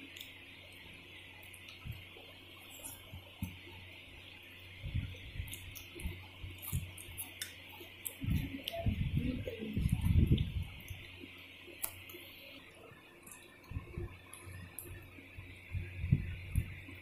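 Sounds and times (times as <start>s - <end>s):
chewing and wet mouth sounds: 0.0s - 17.0s.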